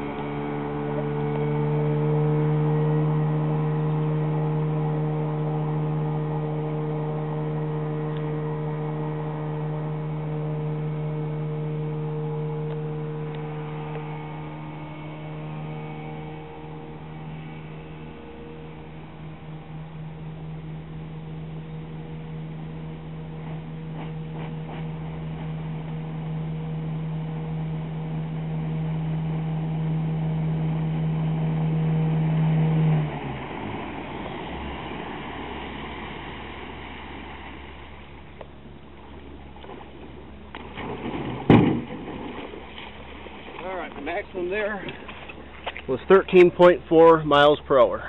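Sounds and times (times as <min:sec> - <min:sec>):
outboard engine running: 0:00.0 - 0:48.0
water wash: 0:00.0 - 0:48.0.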